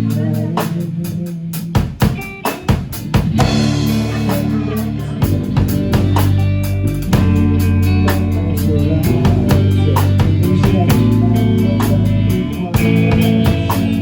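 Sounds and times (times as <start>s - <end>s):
band music: 0.0s - 14.0s
bass guitar: 0.0s - 14.0s
drum kit: 0.0s - 14.0s
electric guitar: 0.0s - 14.0s.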